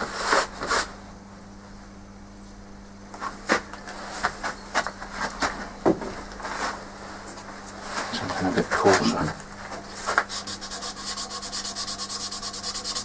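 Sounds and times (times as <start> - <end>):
machinery electrical hum: 0.0 - 13.0.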